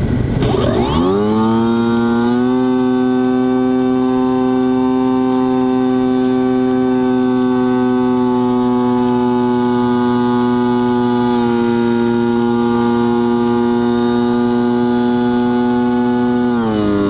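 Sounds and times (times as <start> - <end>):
buzzing whine: 0.0 - 17.0
wind and propeller rush: 0.0 - 17.0.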